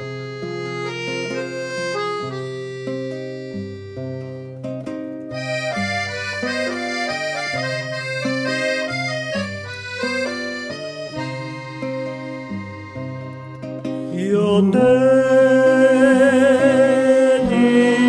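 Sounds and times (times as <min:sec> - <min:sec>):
accordion playing a habanera: 0:00.0 - 0:18.0.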